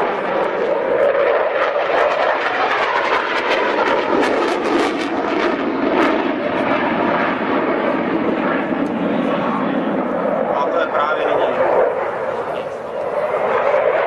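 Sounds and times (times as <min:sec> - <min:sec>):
fighter jet roar: 0:00.0 - 0:14.0.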